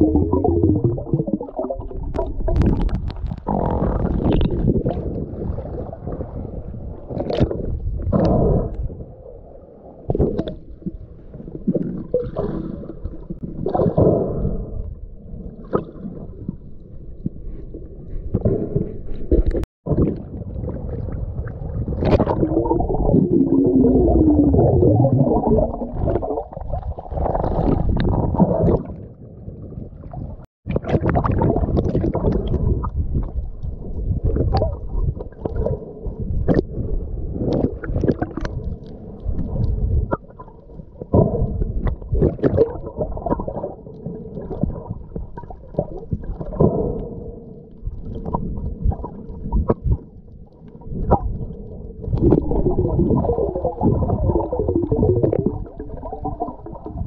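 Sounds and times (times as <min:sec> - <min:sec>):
water gurgling and sloshing: 0:00.0 - 0:57.0.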